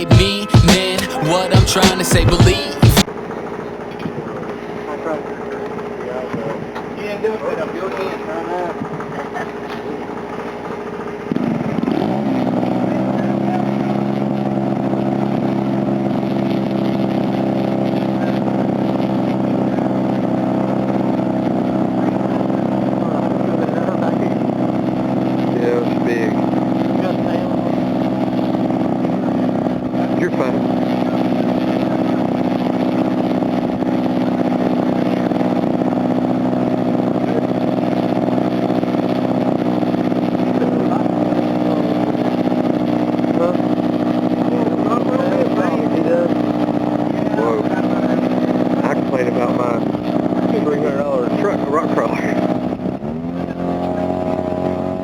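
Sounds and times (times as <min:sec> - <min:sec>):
model airplane engine drone: 0:03.0 - 0:55.0.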